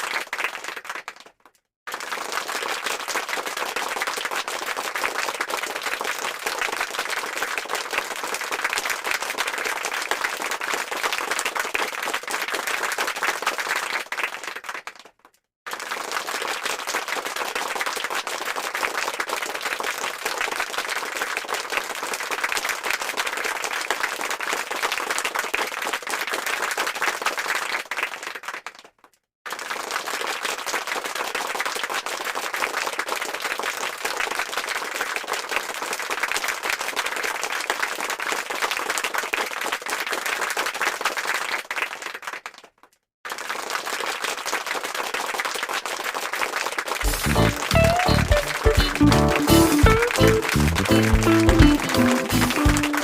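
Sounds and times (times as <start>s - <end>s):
crowd applauding: 0.0s - 15.1s, 15.7s - 28.7s, 29.5s - 42.5s, 43.3s - 53.0s.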